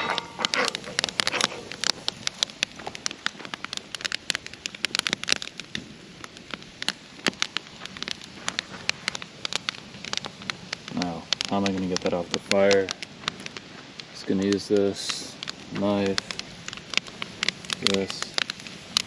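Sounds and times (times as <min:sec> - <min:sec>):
campfire crackling and popping: 0:00.0 - 0:19.0
steak frying in a pan: 0:00.0 - 0:19.0.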